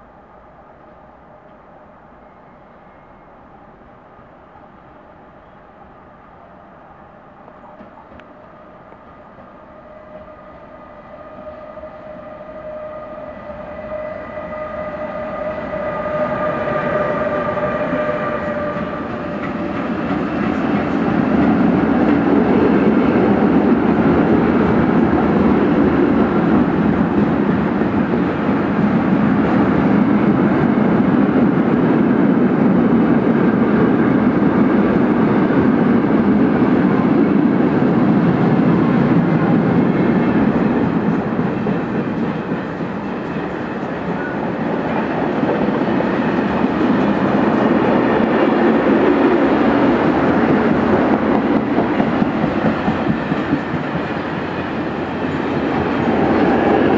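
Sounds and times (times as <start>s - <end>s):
electric locomotive whine: 0.0s - 56.9s
train wheels rumbling: 7.6s - 56.9s.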